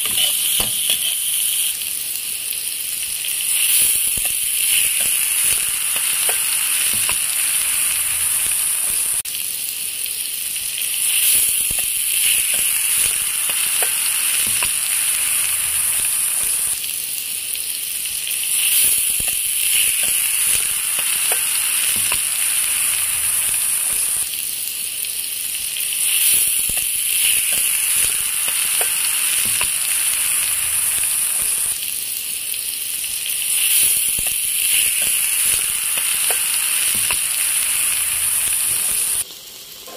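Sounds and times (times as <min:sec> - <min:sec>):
pork and onions sizzling in a wok: 0:00.0 - 0:39.9.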